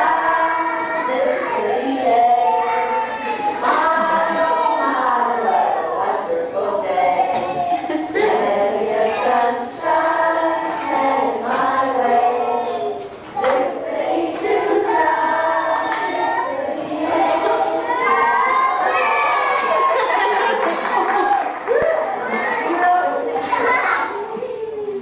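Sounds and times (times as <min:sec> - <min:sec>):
children singing over speakers: 0:00.0 - 0:24.4.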